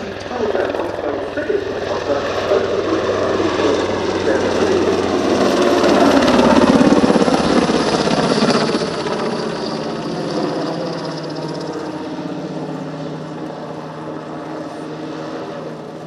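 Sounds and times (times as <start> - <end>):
helicopter rotor chop: 0.0 - 16.0.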